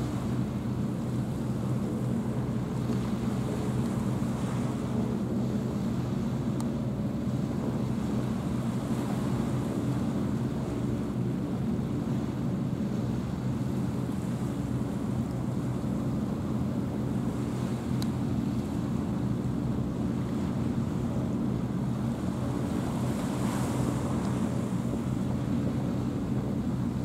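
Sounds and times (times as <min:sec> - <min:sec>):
ship diesel engine drone: 0:00.0 - 0:27.0
small waves: 0:00.0 - 0:27.0
wind: 0:00.0 - 0:27.0.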